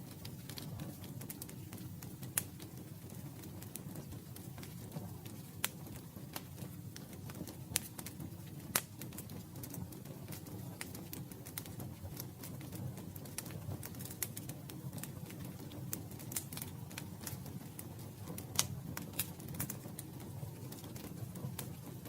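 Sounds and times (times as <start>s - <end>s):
rumble of burning wood: 0.0s - 22.0s
campfire crackling and popping: 0.1s - 22.0s.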